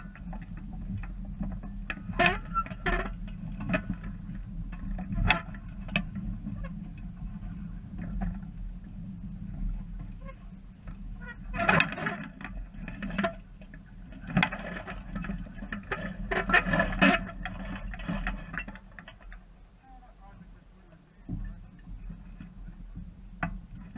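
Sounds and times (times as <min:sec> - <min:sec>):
wind rumble on microphone: 0:00.0 - 0:23.9.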